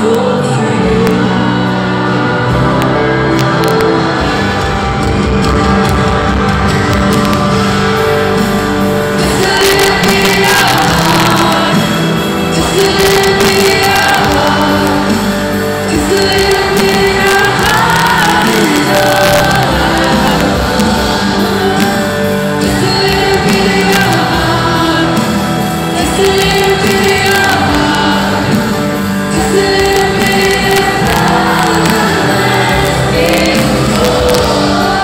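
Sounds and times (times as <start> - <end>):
man singing: 0.0 - 4.7, 9.1 - 35.0
crowd shouting and cheering: 0.0 - 35.0
live pop ballad through pa: 0.0 - 35.0.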